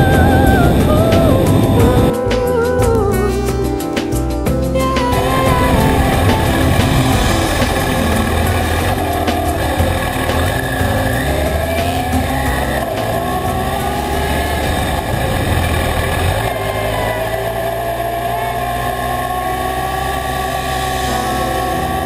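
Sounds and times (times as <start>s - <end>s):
wind and road noise: 0.0s - 2.1s, 5.2s - 22.0s
motorcycle engine running: 0.0s - 3.4s, 4.6s - 22.0s.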